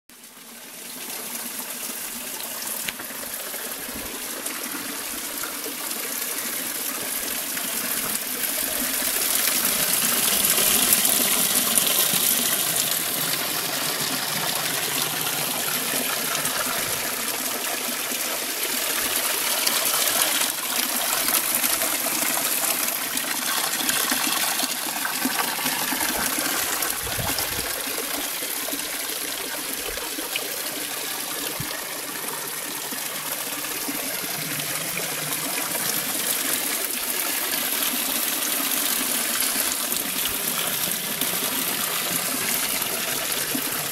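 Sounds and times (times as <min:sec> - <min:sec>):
water splashing into fountain trough: 0:07.2 - 0:43.9.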